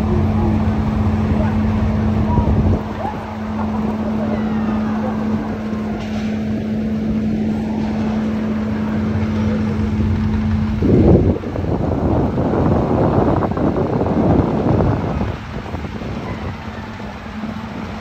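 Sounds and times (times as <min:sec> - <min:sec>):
boat engine humming: 0:00.0 - 0:18.0
wind on microphone: 0:00.0 - 0:18.0.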